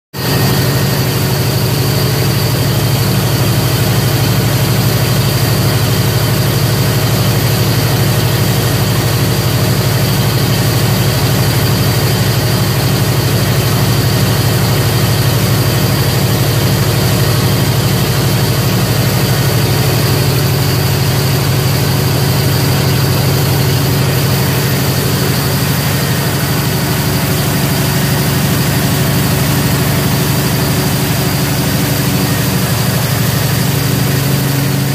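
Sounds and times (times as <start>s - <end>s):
diesel generator engine droning: 0.2s - 34.9s.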